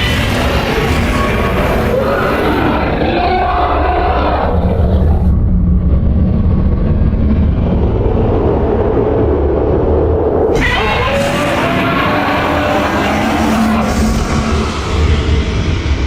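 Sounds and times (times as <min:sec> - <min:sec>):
deep low monster rumble: 0:00.0 - 0:16.0.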